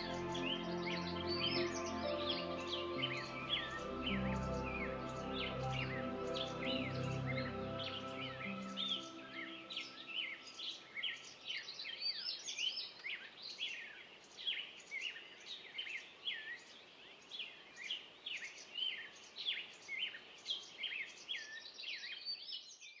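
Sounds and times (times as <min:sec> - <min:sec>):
flock of songbirds chirping: 0:00.0 - 0:22.8
faint outdoor noise: 0:00.0 - 0:23.0.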